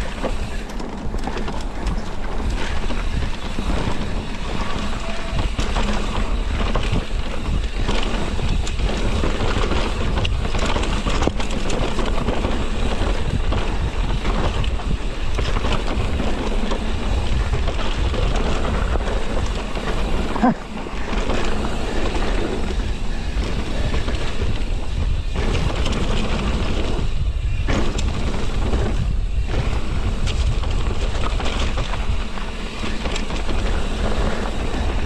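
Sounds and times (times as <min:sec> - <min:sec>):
bike rattling: 0:00.0 - 0:35.0
tyre noise on dirt: 0:00.0 - 0:35.0
wind buffeting microphone: 0:00.0 - 0:35.0.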